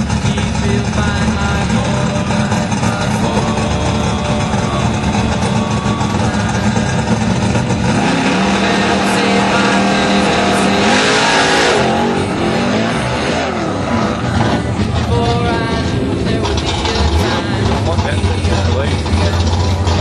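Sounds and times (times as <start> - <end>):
drag car engine running hard: 0.0 - 20.0.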